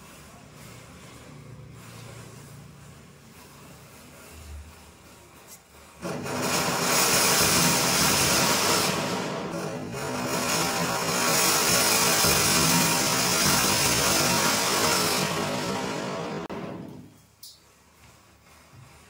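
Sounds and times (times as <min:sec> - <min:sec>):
firework fountain hissing: 0:00.0 - 0:17.2.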